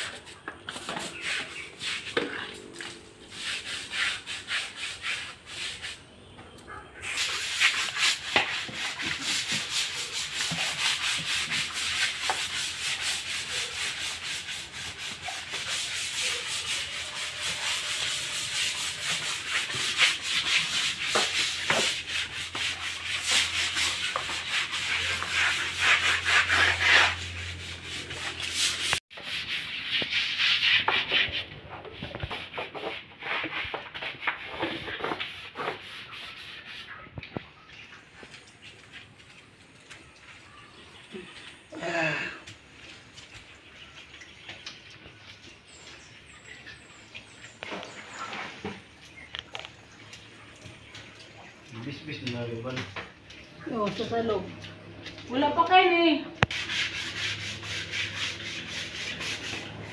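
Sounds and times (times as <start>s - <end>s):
brush scrubbing wet concrete: 0.0s - 59.9s.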